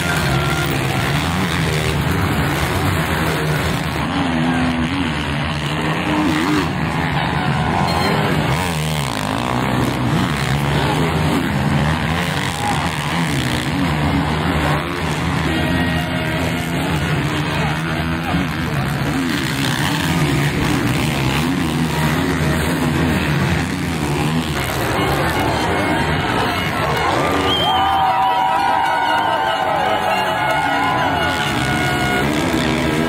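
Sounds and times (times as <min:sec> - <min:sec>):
motocross engines revving: 0:00.0 - 0:33.0.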